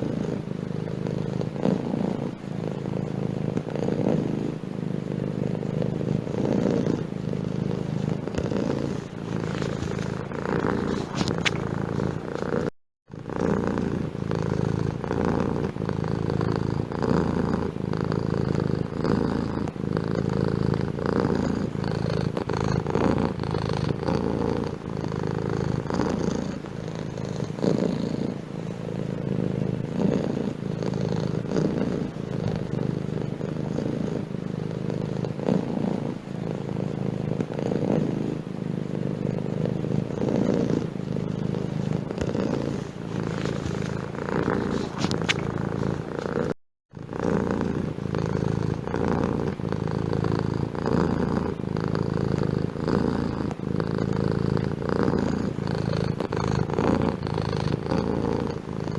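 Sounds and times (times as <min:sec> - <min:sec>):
cat purring: 0:00.0 - 0:58.9.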